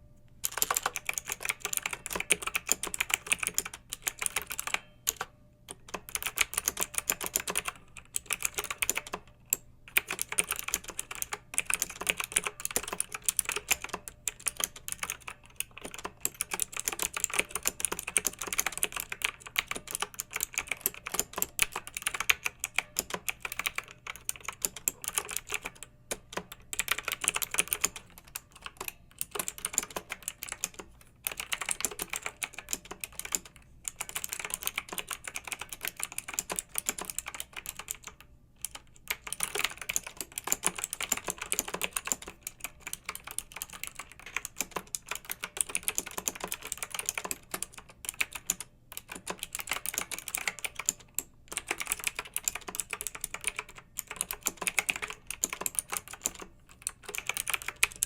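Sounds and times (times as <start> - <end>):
mechanical keyboard typing: 0.4 - 58.0.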